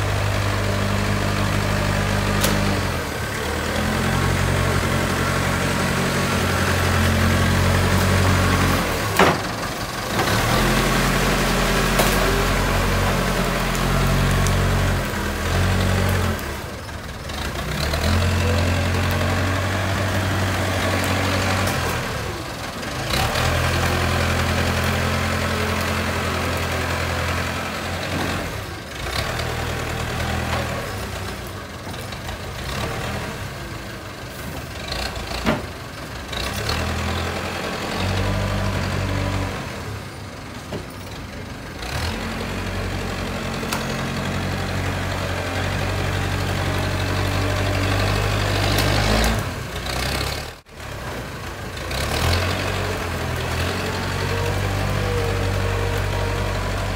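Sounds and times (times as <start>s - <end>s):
diesel engine working under load: 0.0s - 56.9s.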